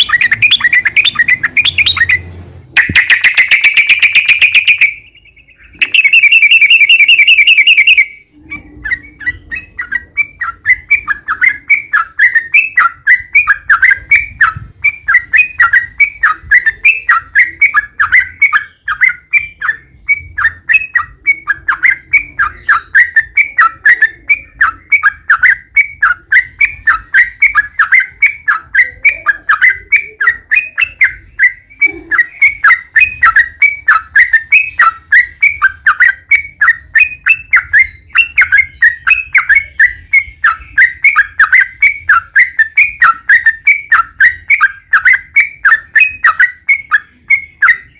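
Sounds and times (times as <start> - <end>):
bulbul singing trills and chirps: 0.0 - 47.9.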